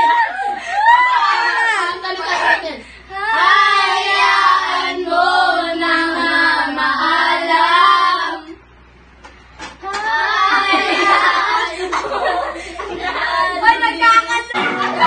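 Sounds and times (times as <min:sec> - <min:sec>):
girls singing together: 0:00.0 - 0:08.6, 0:09.7 - 0:15.0.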